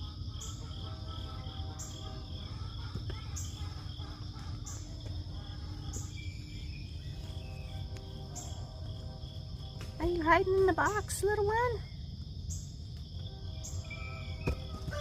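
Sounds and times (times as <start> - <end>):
constant low rumble: 0.0 - 15.0
crickets trilling: 0.0 - 15.0
higher insect chirp: 0.0 - 15.0.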